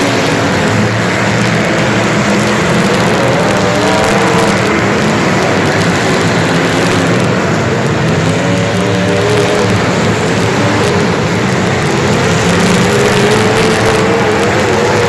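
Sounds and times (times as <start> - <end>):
constant rushing noise: 0.0 - 15.0
vehicle engine running: 0.0 - 15.0.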